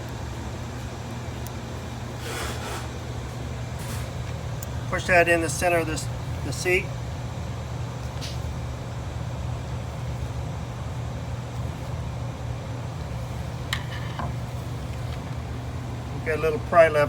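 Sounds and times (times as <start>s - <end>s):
machinery humming: 2.9s - 17.0s.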